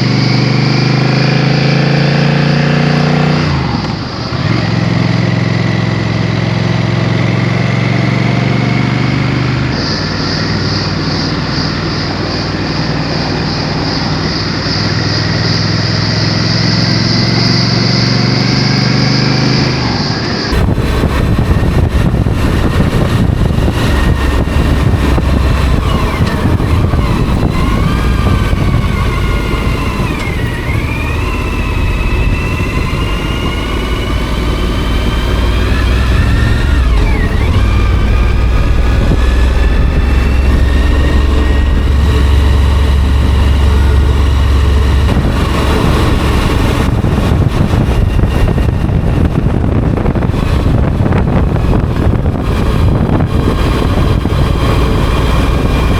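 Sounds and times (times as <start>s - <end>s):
motorcycle engine running: 0.0s - 55.9s
heavy wind rush: 8.0s - 55.9s.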